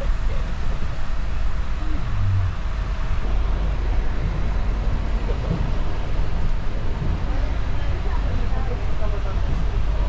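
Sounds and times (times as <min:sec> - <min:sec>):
moving train rumble inside carriage: 0:00.0 - 0:10.0.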